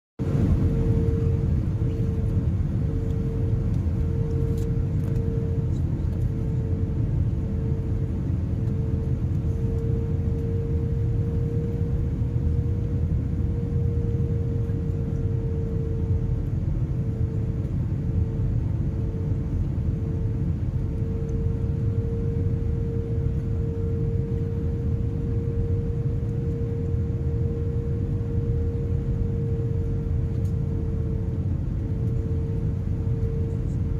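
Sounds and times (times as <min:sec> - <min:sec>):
airliner cabin engine rumble: 0:00.2 - 0:33.9
pulsing droning tone: 0:00.2 - 0:33.9.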